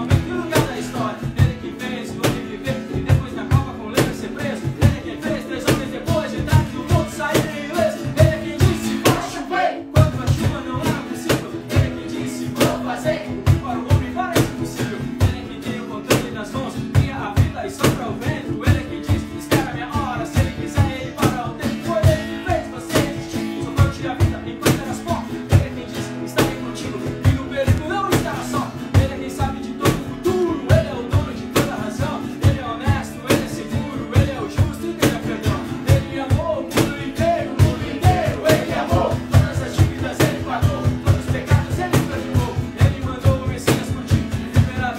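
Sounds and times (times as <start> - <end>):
drum beat: 0.0 - 44.9
guitar: 0.0 - 44.9
person singing: 0.0 - 44.9.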